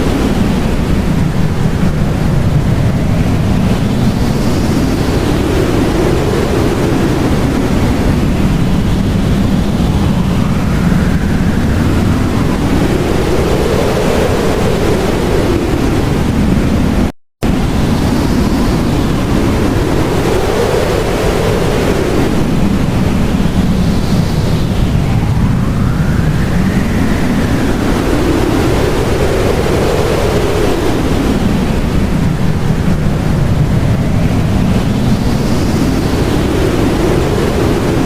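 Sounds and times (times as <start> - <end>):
blizzard wind howling: 0.0 - 38.0.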